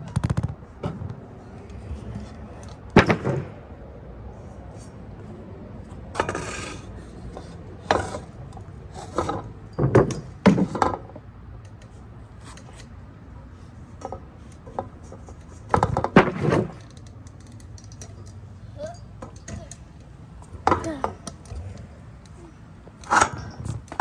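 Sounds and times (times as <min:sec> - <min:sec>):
scooter wheels rolling and scraping: 0:00.0 - 0:03.7, 0:04.4 - 0:24.0.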